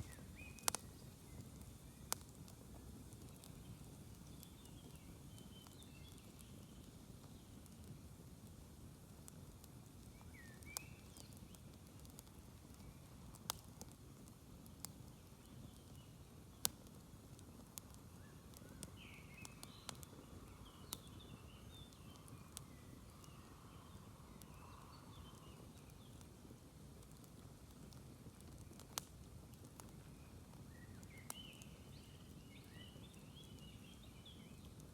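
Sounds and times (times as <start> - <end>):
campfire popping and crackling: 0.0 - 34.9.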